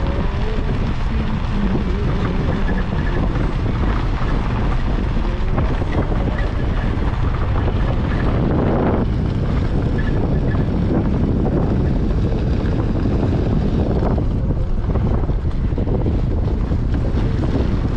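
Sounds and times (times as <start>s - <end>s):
vehicle rumbling on dirt road: 0.0s - 17.9s
wind on microphone: 0.0s - 17.9s.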